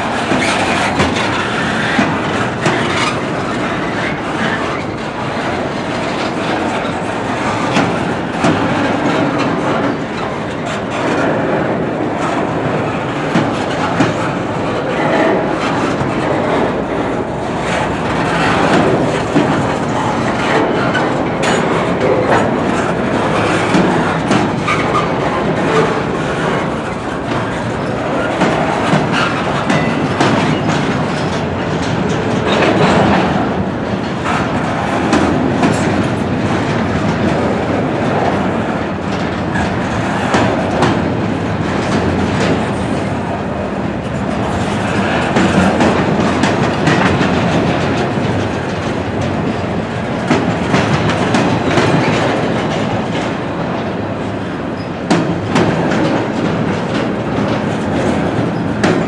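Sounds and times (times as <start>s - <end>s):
clickety-clack of rail joints: 0.0s - 59.0s
rattling freight cars: 0.0s - 59.0s
steel wheels rumbling on rail: 0.0s - 59.0s.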